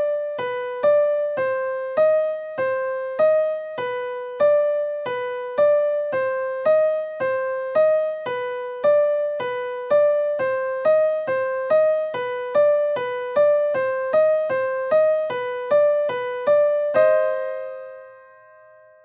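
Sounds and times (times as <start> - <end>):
virtual piano notes: 0.0 - 19.0.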